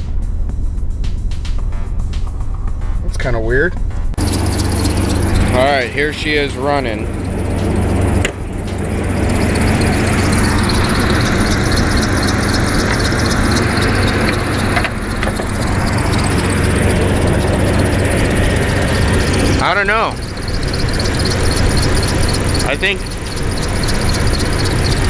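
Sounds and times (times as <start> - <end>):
car engine idling: 0.0 - 25.0
engine fan air rush: 0.0 - 25.0.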